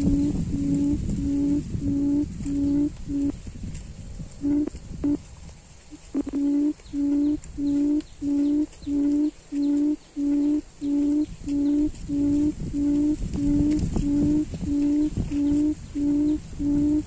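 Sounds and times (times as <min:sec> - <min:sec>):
quail hooting: 0:00.0 - 0:03.4, 0:04.4 - 0:05.3, 0:05.9 - 0:17.0.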